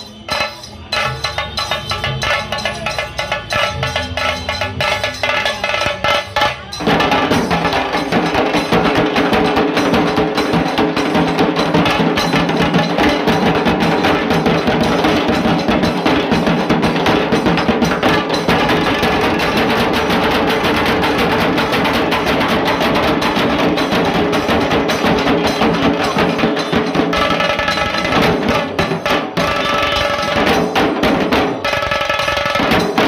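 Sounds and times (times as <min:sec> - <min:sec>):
dhol and tasa drumming: 0:00.0 - 0:33.0.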